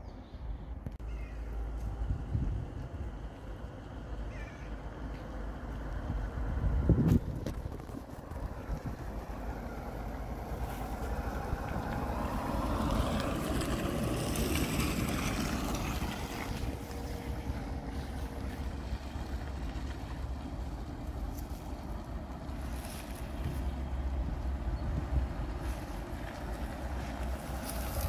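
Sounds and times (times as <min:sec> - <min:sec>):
car engine passing by: 0:01.2 - 0:28.0
wind rumbling on microphone: 0:01.8 - 0:03.6, 0:05.6 - 0:28.0.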